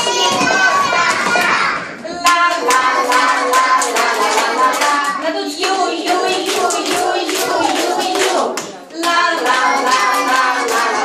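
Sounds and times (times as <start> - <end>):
children singing: 0.0 - 11.0
rhythmic hand clapping: 0.0 - 11.0.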